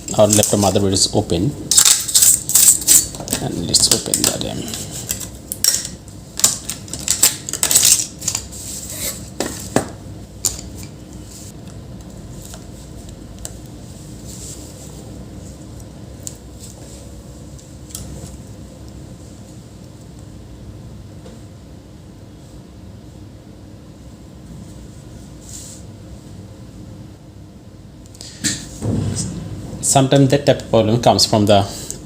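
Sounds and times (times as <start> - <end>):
steady low background noise: 0.0 - 32.0.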